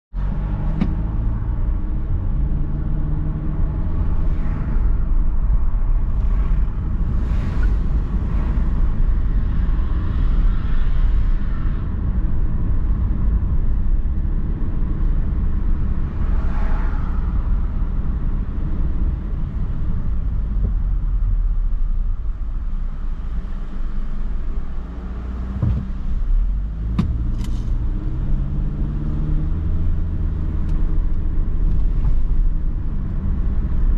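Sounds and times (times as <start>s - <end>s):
car engine and tyre rumble: 0.1s - 33.9s.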